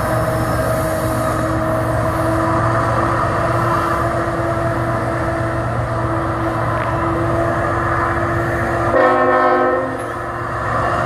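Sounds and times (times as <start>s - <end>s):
diesel locomotive drone: 0.0s - 11.0s.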